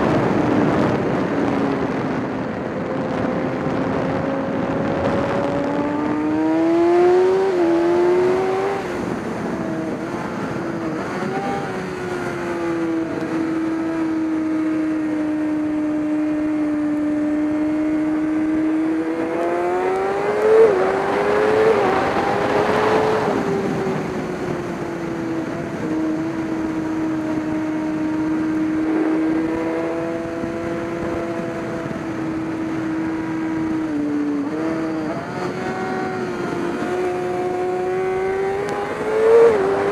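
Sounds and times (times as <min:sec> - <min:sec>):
race car engine revving: 0:03.7 - 0:39.9.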